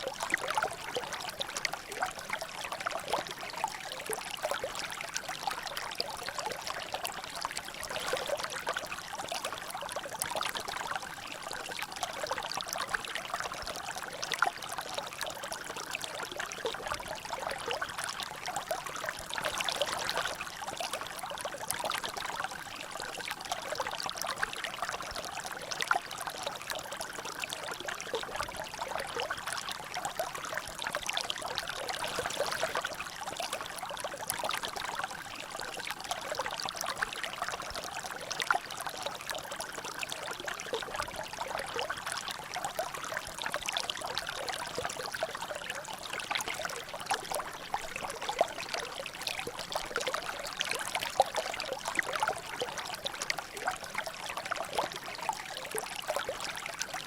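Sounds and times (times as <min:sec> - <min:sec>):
water trickling and dripping: 0:00.0 - 0:57.0.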